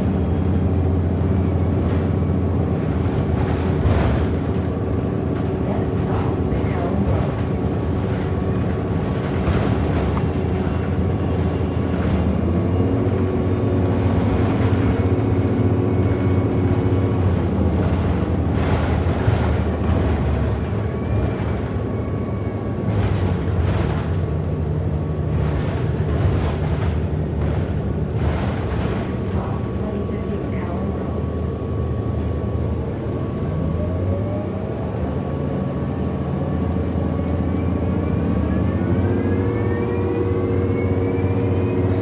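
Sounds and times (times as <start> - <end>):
bus drive drone: 0.0 - 42.0.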